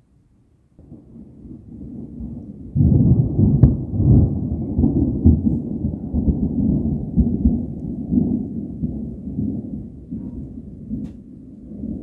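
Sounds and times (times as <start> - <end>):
loud rolling thunder: 0.8 - 12.0.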